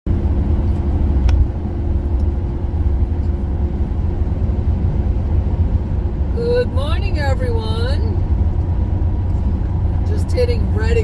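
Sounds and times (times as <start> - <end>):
van engine and tyre noise: 0.1 - 11.0.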